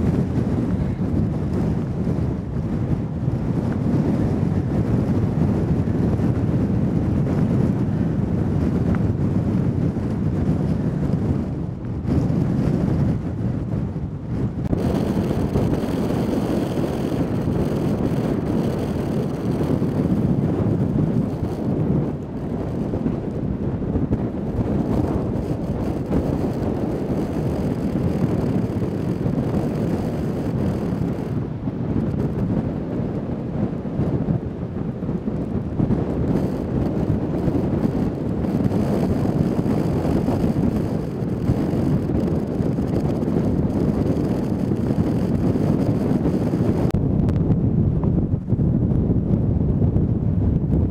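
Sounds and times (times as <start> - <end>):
heavy storm surf: 0.0 - 50.9
wind buffeting microphone: 0.0 - 50.9.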